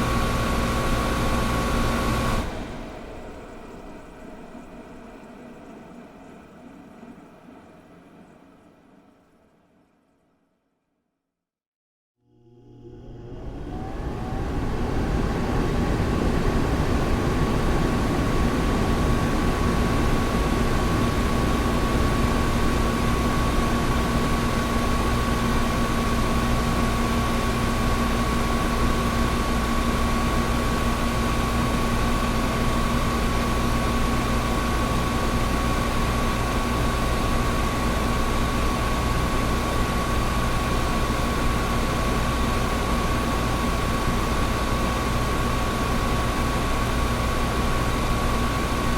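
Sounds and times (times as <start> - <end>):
air conditioner running: 0.0 - 5.8, 12.3 - 48.9.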